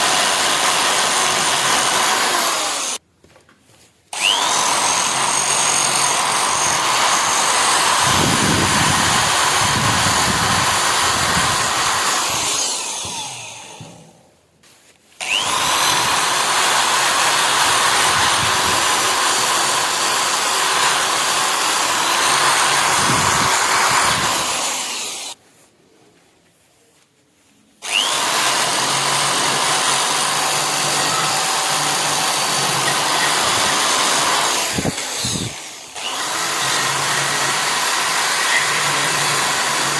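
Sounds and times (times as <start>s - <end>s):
rotary tool grinding metal: 0.0s - 3.0s, 4.2s - 14.0s, 15.2s - 25.4s, 27.8s - 39.9s.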